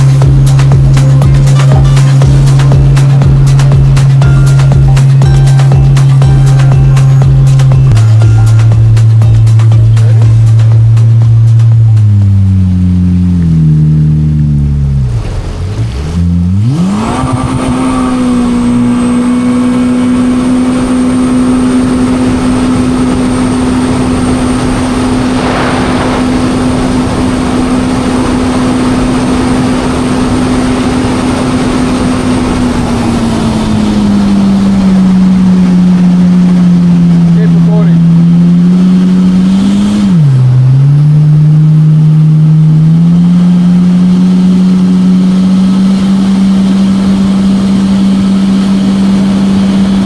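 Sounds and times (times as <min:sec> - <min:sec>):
jet ski engine revving: 0:00.0 - 0:50.0.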